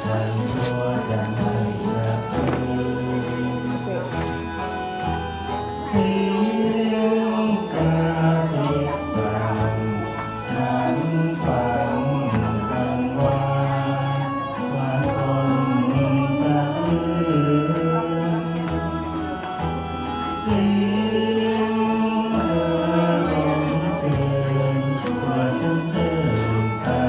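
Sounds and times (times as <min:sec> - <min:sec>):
karaoke backing track: 0:00.0 - 0:27.0
man singing into a microphone: 0:00.0 - 0:27.0.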